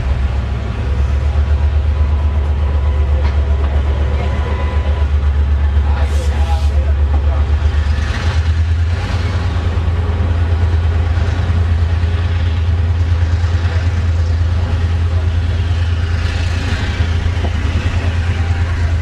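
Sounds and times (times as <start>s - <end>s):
diesel locomotive engine humming: 0.0s - 19.0s
train noise: 0.0s - 19.0s.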